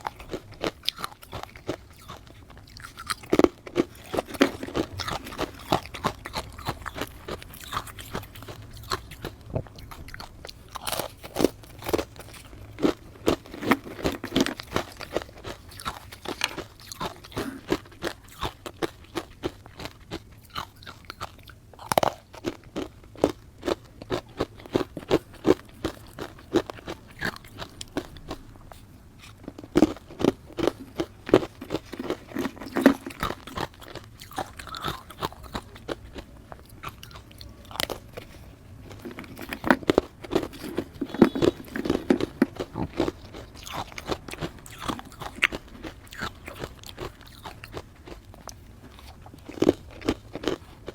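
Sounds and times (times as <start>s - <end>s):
ice crunching while chewed: 0.0s - 50.9s.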